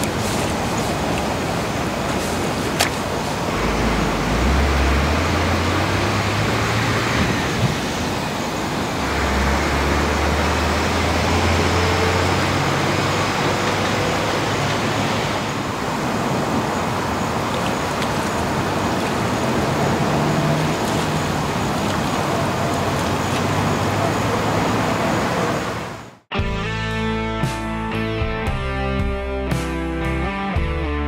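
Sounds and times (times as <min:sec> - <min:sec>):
road traffic noise: 0:00.0 - 0:26.3.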